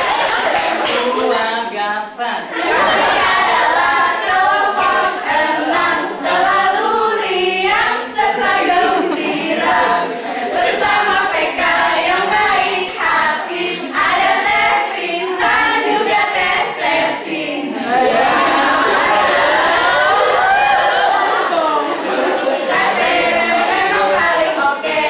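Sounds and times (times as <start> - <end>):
group singing a cheer: 2.5 - 25.0.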